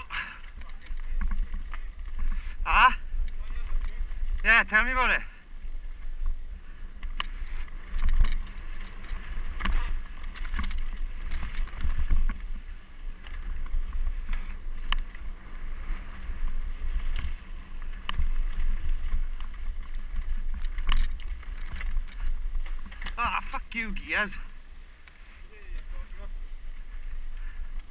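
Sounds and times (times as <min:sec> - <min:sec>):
bike rattling over stones: 0:00.0 - 0:27.9
wind and tyre rumble: 0:00.0 - 0:27.9.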